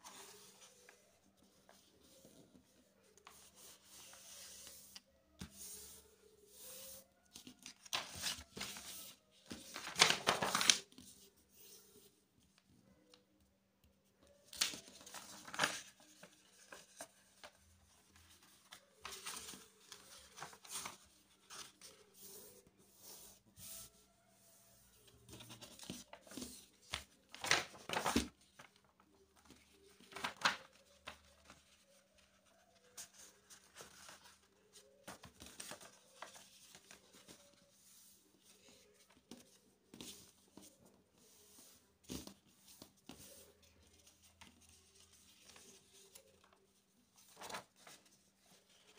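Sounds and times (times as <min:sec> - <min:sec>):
paper rustling and rubbing: 0:03.2 - 0:11.0, 0:14.5 - 0:28.7, 0:29.4 - 0:48.9.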